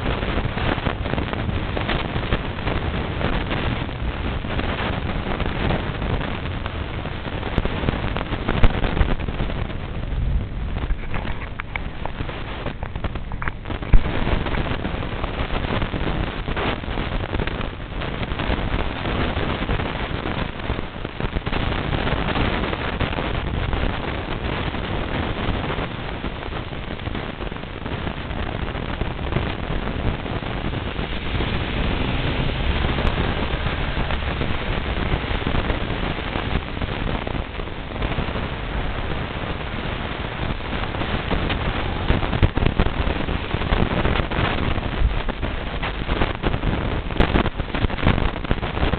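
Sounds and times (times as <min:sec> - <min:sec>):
crackles: 0:00.0 - 0:48.9
wind buffeting microphone: 0:00.0 - 0:48.9.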